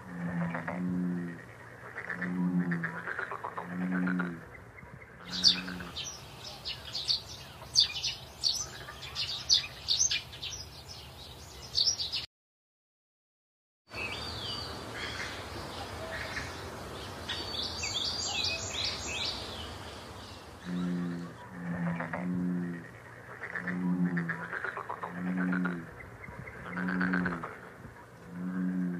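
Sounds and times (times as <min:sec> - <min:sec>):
outdoor background noise: 0:00.0 - 0:12.3, 0:13.9 - 0:28.9
birds chirping: 0:01.2 - 0:12.3, 0:13.9 - 0:28.9.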